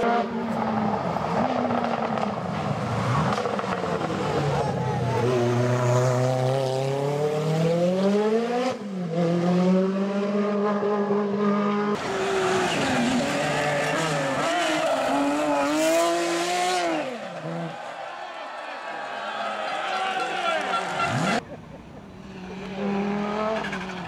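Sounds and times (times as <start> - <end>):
car engine revving: 0.0 - 17.7, 20.8 - 21.4, 22.3 - 24.0
rally car engine at full throttle: 0.0 - 17.8, 20.6 - 24.0.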